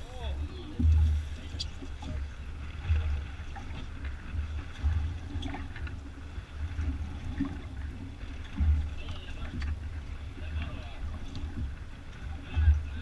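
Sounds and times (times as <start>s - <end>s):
water slapping against hull: 0.0s - 13.0s.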